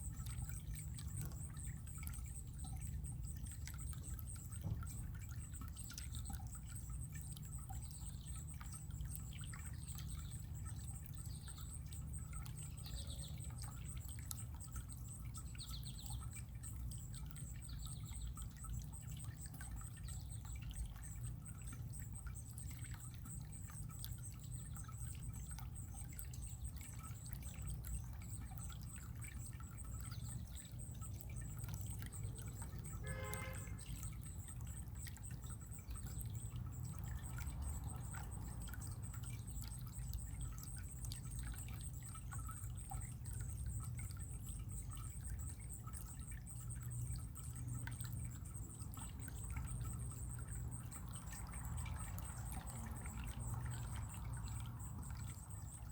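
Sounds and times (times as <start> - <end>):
water trickling and dripping: 0.0 - 55.9.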